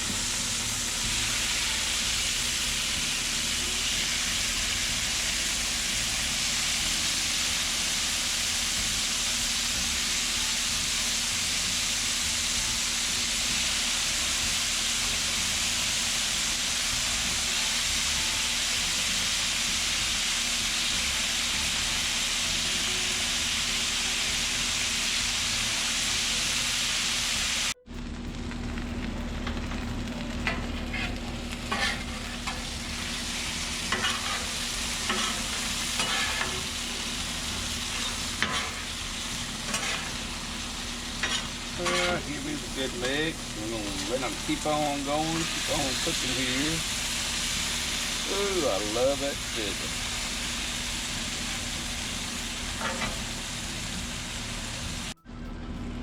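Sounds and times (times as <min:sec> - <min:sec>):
chicken sizzling on griddle: 0:00.0 - 0:55.2.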